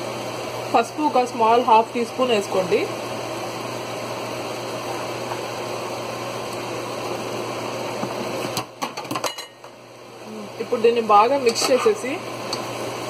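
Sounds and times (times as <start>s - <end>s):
vent fan hissing and humming: 0.0s - 13.0s.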